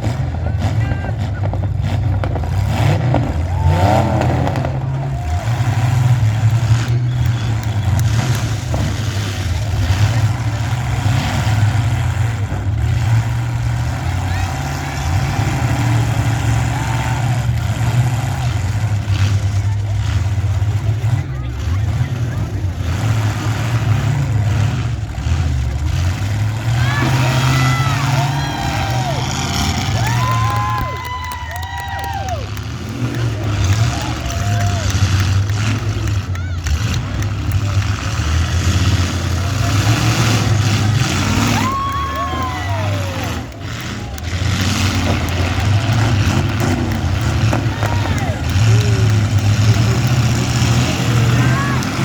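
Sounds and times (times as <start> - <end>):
car engines revving: 0.0 - 52.0
cars knocking: 0.0 - 52.0.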